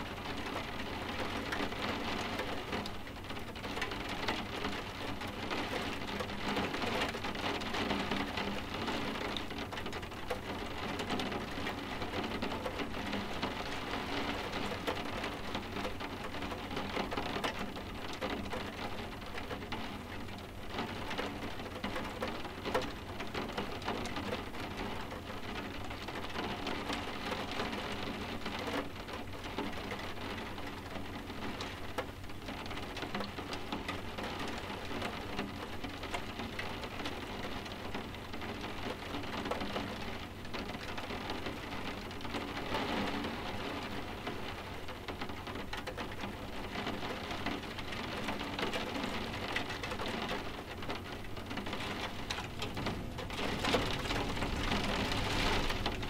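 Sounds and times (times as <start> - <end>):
soft steady rain: 0.0 - 56.0.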